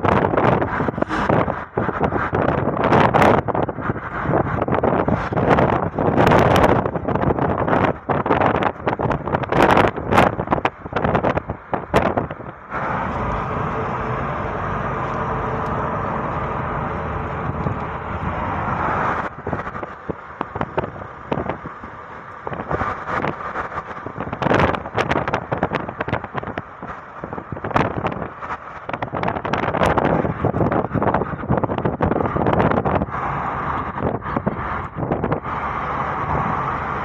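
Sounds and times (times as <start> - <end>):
moving car noise: 0.0 - 37.0
wind buffeting microphone: 0.0 - 37.0.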